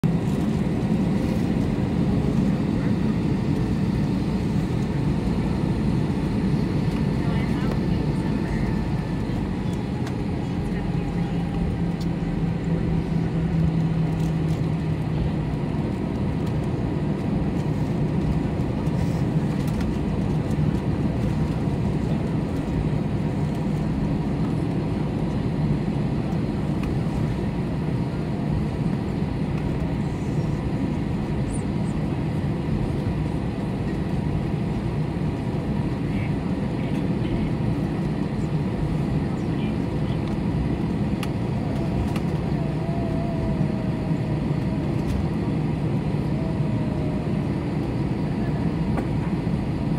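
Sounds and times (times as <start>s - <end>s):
airplane cabin rumble: 0.0s - 49.9s.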